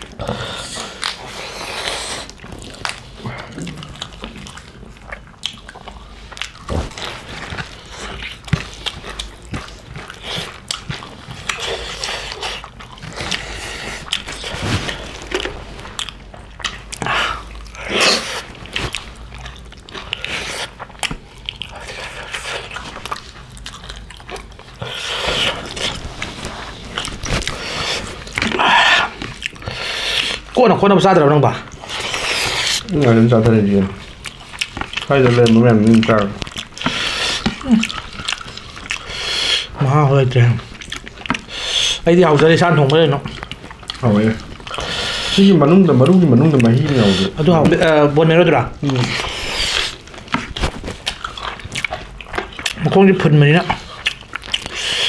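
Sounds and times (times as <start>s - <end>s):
people chewing and smacking: 0.0s - 55.0s.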